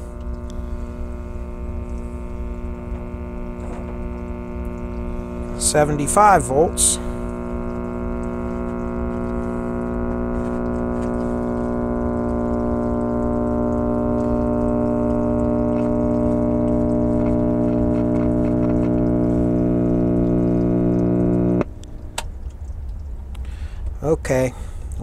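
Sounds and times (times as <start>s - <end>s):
radio speaker buzzy hum: 0.0s - 22.3s, 23.4s - 25.0s.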